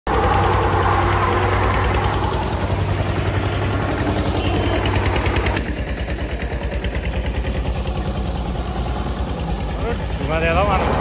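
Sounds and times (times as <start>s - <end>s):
engine rush: 0.1s - 11.0s
tractor diesel engine knocking: 0.1s - 11.0s
wheels spinning in loose dirt: 0.1s - 11.0s.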